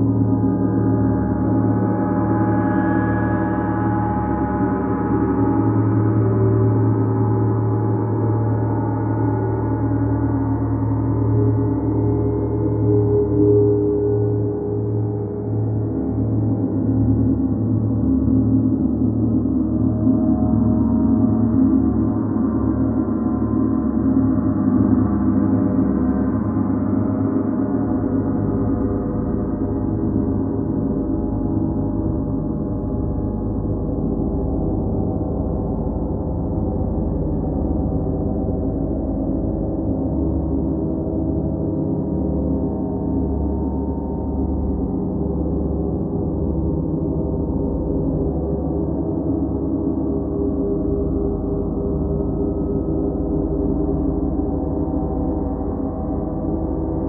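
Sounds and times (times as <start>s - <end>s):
deep hum: 0.0s - 57.0s.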